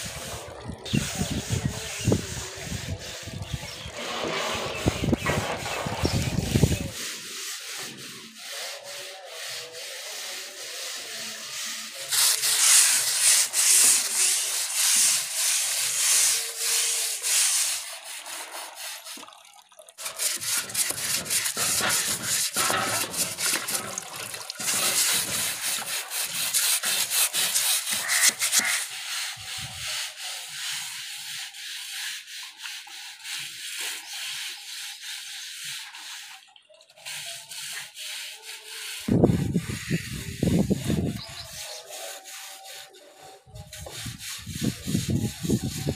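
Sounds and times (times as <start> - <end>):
wet scrubbing of wood and rope: 0.0 - 45.9.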